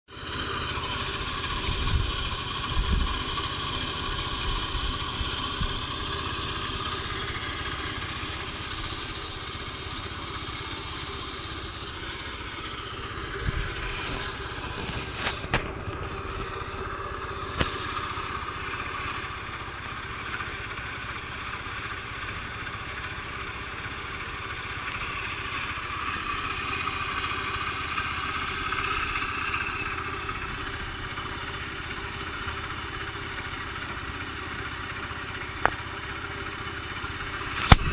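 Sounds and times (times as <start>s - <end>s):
scooter engine idling: 0.0s - 37.9s.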